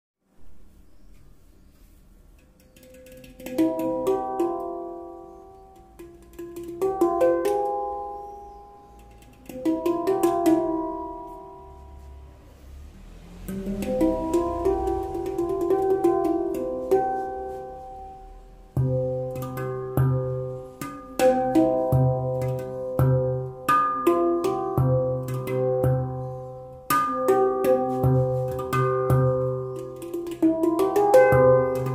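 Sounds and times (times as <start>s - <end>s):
handpan played by hand: 0.9s - 31.9s.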